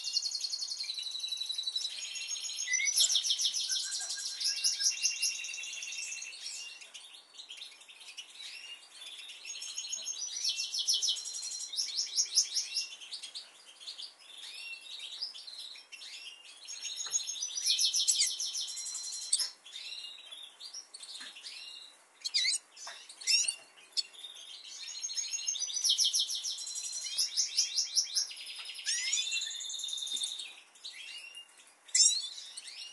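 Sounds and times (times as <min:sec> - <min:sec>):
birds chirping and trilling: 0:00.0 - 0:32.9.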